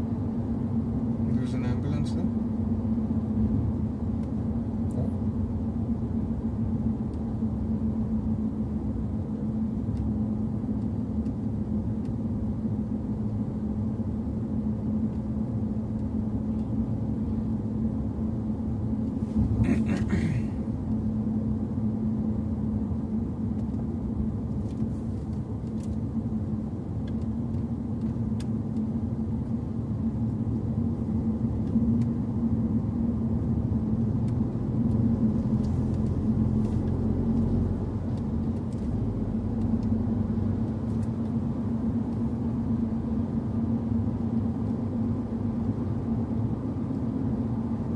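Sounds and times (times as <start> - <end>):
car engine running: 0.0 - 47.9
low rumble: 0.0 - 47.9.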